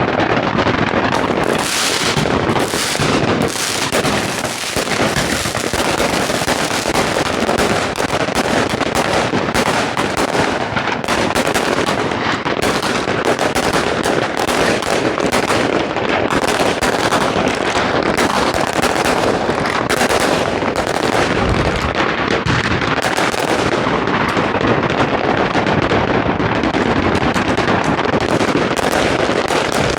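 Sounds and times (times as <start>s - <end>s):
fireworks and firecrackers crackling: 0.0s - 29.9s.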